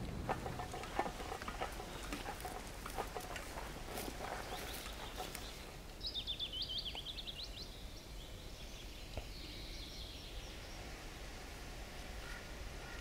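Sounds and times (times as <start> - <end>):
songbird chirping: 0.0 - 11.0
faint bird song: 0.1 - 13.0.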